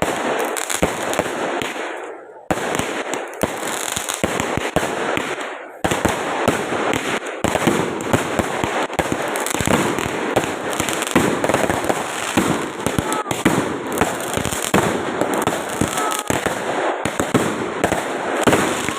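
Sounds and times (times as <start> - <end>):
fireworks crackling and popping: 0.0 - 18.9.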